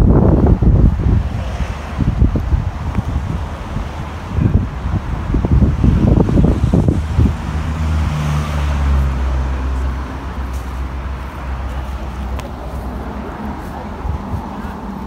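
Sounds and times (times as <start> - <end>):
vehicle engine humming: 0.0 - 15.0
wind buffeting microphone: 0.0 - 15.0.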